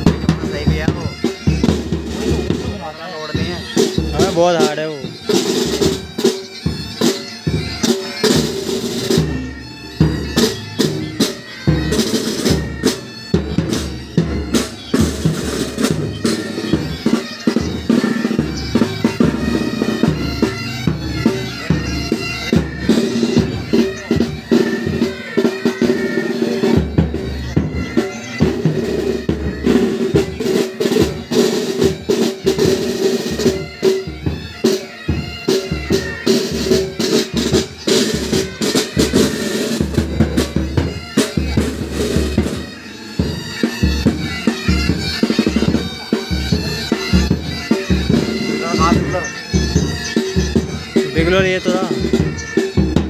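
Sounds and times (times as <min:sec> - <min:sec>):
bagpipes playing a tune: 0:00.0 - 0:53.0
snare drums: 0:00.0 - 0:53.0.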